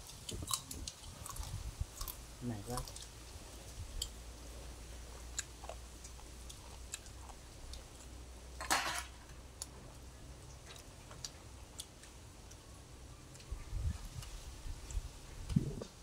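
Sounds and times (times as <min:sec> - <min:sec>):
people chewing: 0:00.0 - 0:08.6, 0:09.3 - 0:16.0.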